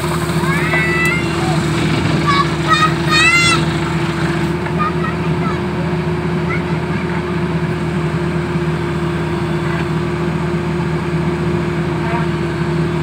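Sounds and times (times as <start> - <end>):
drilling rig engine humming: 0.0 - 13.0.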